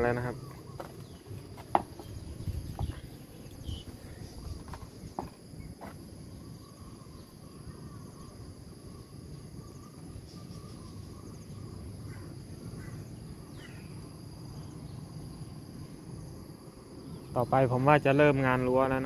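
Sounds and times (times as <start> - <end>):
faint chirps: 0.0 - 16.2
insects trilling: 0.0 - 19.0.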